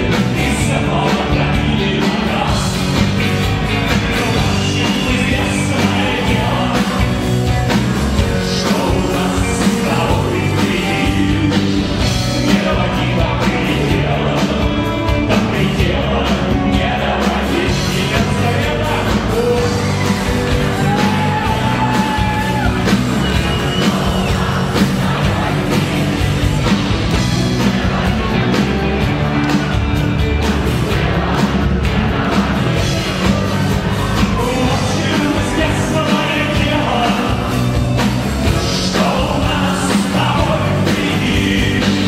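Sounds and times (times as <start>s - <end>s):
man singing: 0.0s - 26.7s, 33.2s - 42.0s
electric guitars: 0.0s - 42.0s
steady drum beat: 0.0s - 42.0s.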